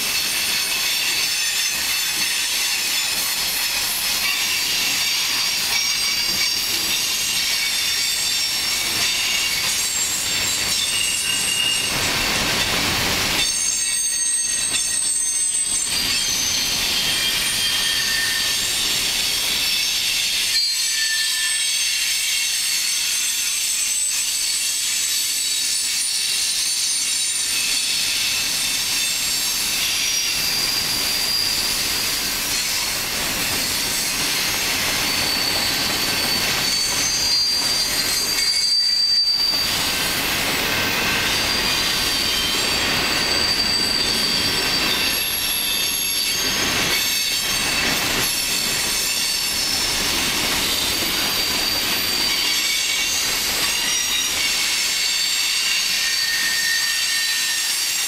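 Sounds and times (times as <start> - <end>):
freight train rolling past: 0.0 - 58.0
wheels squealing on rails: 0.0 - 58.0.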